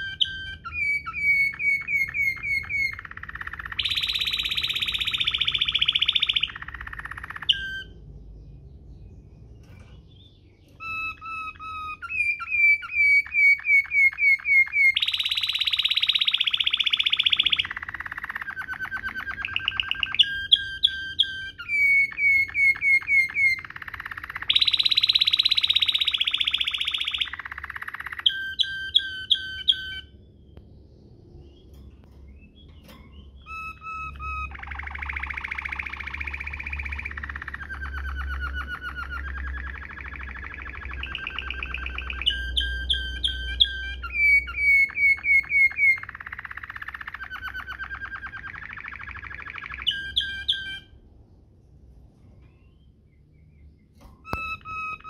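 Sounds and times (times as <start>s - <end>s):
canary singing rolling song: 0.0s - 55.0s.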